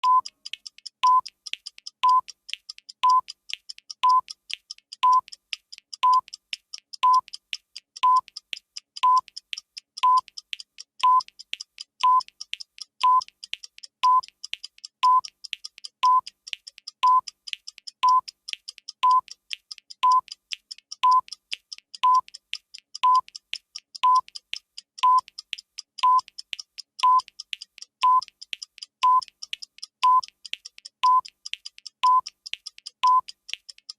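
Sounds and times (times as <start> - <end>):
clock ticking: 0.0 - 33.9.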